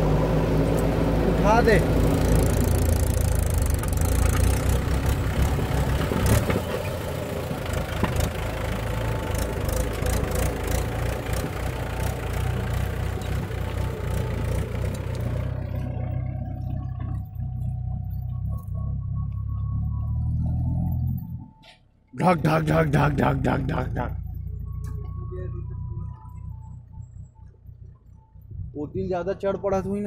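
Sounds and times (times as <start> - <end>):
diesel engines droning: 0.0 - 30.0.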